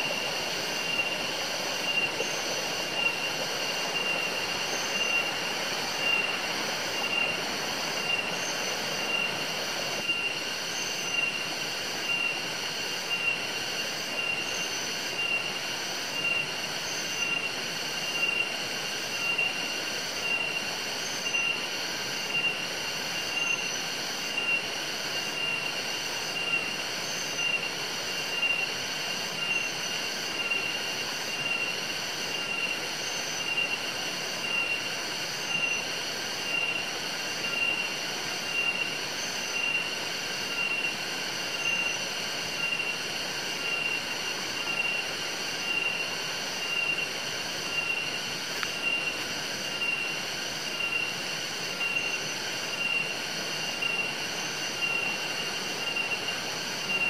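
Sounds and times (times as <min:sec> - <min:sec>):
forest insects shrilling: 0:00.0 - 0:57.0.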